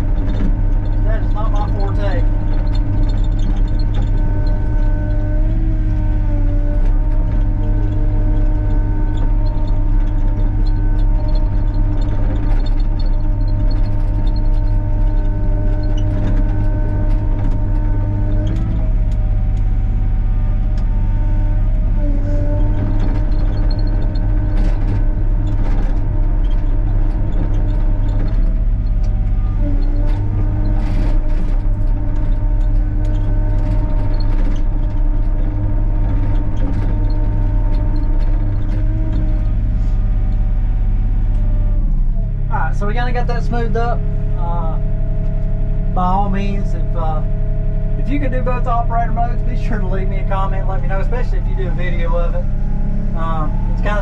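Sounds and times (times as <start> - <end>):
excavator engine rumbling: 0.0 - 54.0
hydraulic whine: 0.0 - 54.0.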